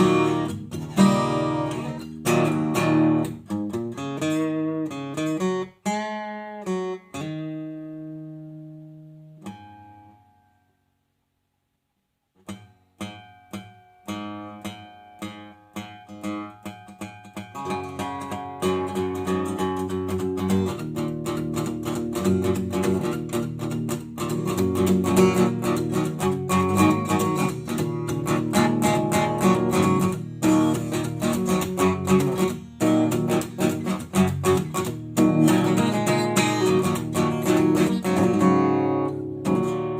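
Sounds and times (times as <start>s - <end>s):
acoustic guitar: 0.0s - 11.1s, 12.3s - 39.9s.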